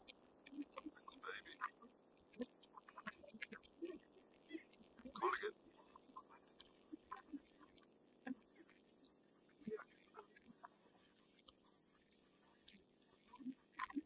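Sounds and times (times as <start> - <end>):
insects chirping: 0.0 - 14.0
small clicks and rustles: 0.0 - 14.0.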